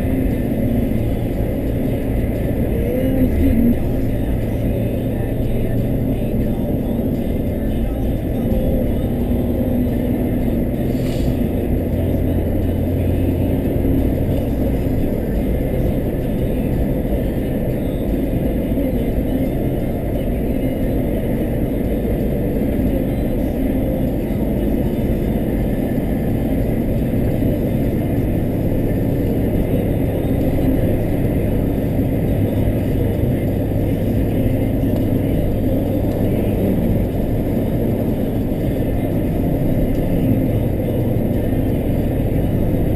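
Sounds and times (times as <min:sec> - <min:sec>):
car engine rumble: 0:00.0 - 0:42.9
road noise: 0:00.0 - 0:42.9.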